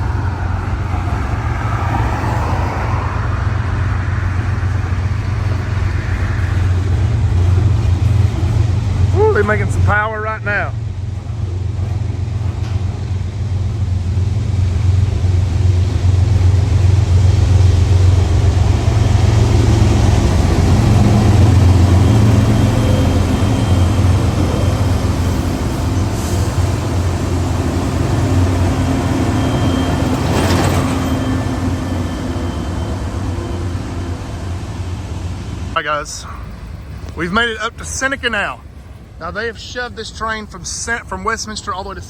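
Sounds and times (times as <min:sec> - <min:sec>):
diesel locomotive engine rumble: 0:00.0 - 0:42.0.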